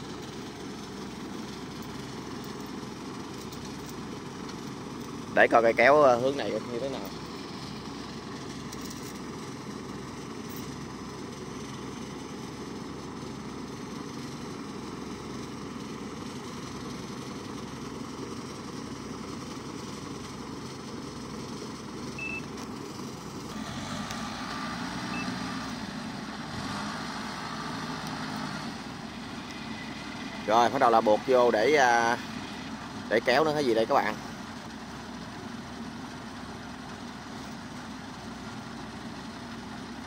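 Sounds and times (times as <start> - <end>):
farm machinery engines running: 0.0 - 40.0.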